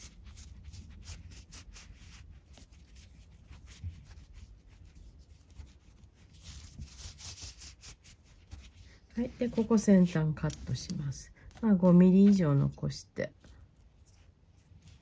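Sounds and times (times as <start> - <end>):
fingers rubbing nylon cord: 0.0 - 15.0.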